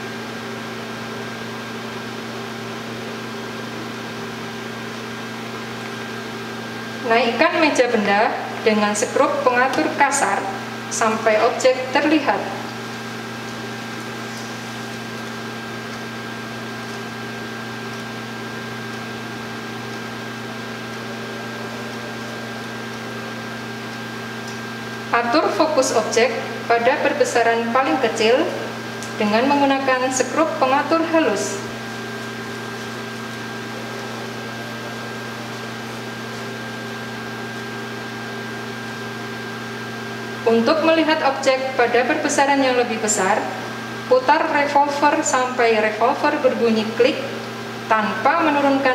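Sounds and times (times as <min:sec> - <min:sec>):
steady background hum and hiss: 0:00.0 - 0:48.9.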